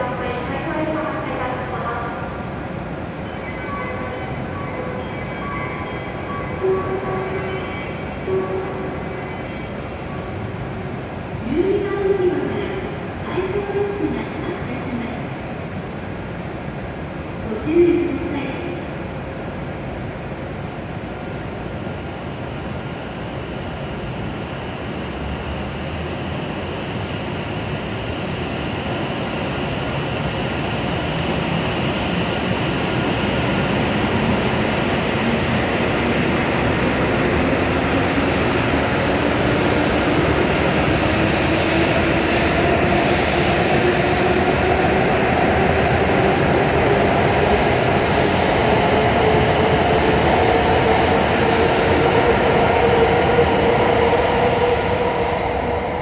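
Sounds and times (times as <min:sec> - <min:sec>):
rumble of passing train cars: 0:00.0 - 0:56.0.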